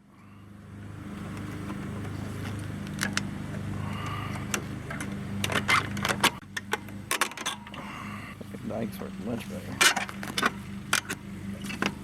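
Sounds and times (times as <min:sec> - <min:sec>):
lawn mower engine running: 0:00.4 - 0:12.0.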